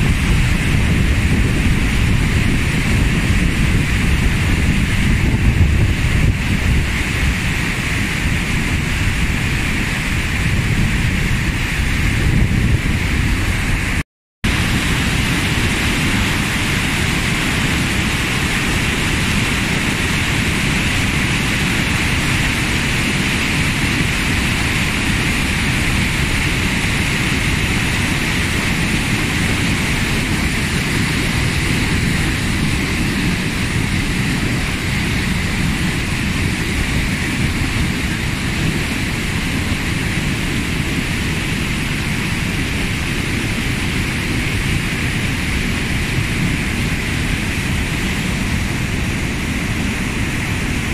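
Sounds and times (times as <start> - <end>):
water rushing over a weir: 0.0 - 50.9.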